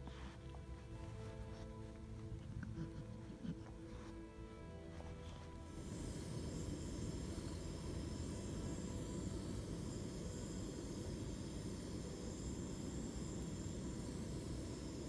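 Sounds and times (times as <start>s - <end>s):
gas stove hissing: 0.0s - 15.0s.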